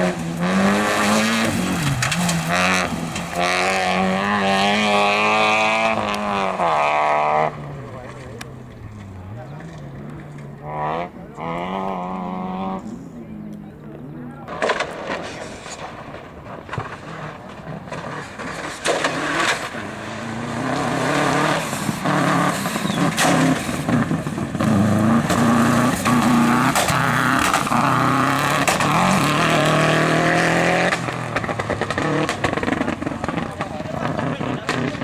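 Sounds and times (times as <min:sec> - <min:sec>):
rally car engine at full throttle: 0:00.0 - 0:35.0.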